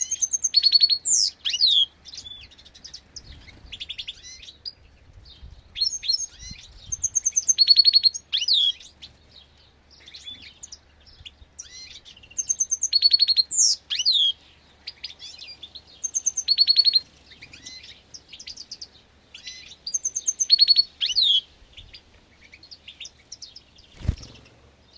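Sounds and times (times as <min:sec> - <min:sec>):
finch singing: 0:00.0 - 0:24.9
soft twittering chirps: 0:00.0 - 0:24.9.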